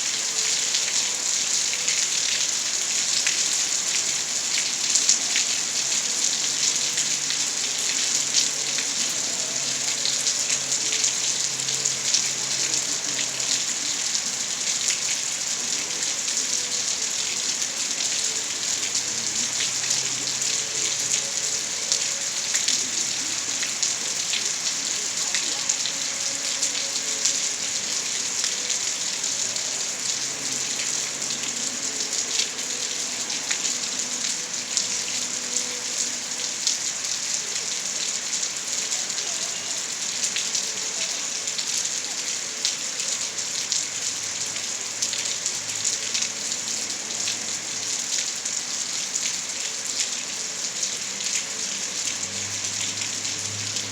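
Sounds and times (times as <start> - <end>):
rain drops ticking on surface: 0.0 - 53.9.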